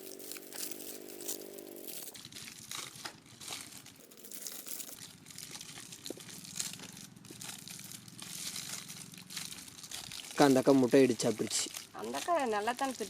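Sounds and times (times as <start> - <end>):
plastic wrappers crinkling: 0.0 - 13.0.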